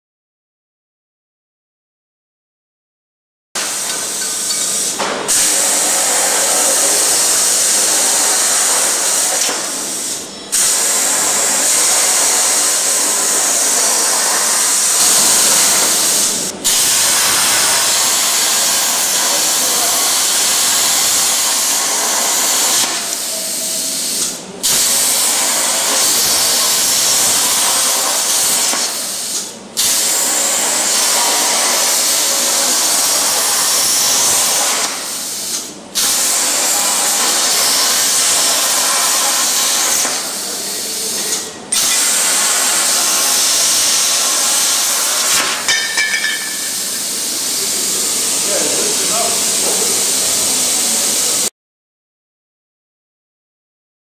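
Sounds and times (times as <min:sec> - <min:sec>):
plasma torch hissing: 0:03.6 - 0:51.5.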